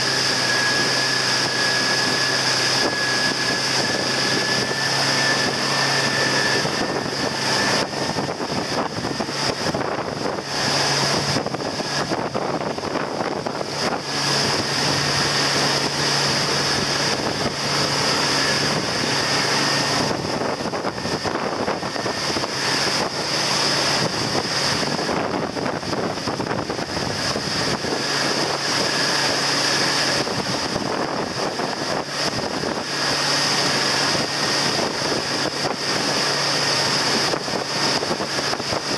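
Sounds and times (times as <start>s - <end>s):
motorboat engine running: 0.0s - 38.9s
water rushing in wake: 0.0s - 38.9s
wind buffeting microphone: 0.0s - 38.9s.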